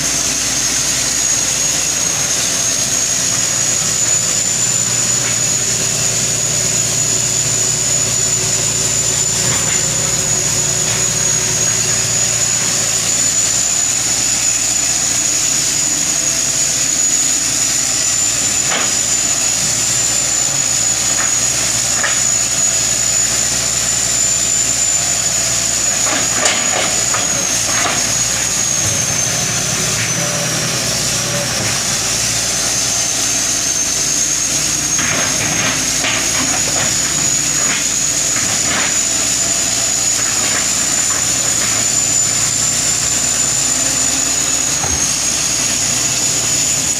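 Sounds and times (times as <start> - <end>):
constant high whine: 0.0 - 46.9
excavator diesel engine running: 0.0 - 46.9.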